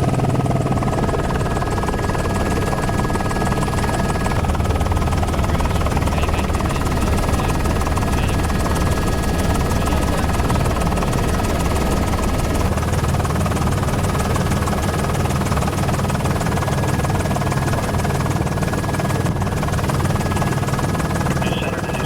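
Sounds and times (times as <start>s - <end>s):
helicopter rotor drone: 0.0s - 22.0s.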